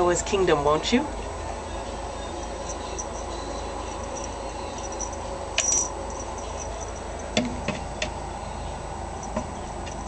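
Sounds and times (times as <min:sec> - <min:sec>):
room noise hum: 0:00.0 - 0:10.0.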